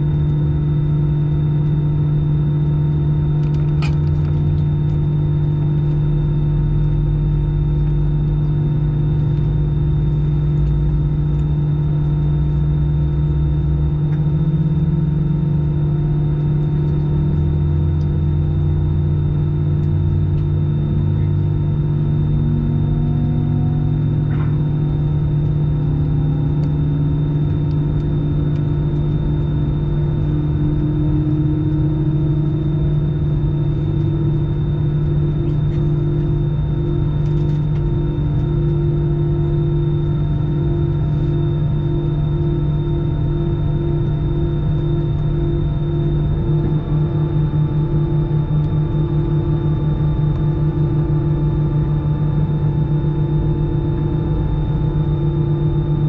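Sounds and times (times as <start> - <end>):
aircraft cabin hum and rumble: 0.0 - 56.0
faint rising whines: 0.0 - 56.0.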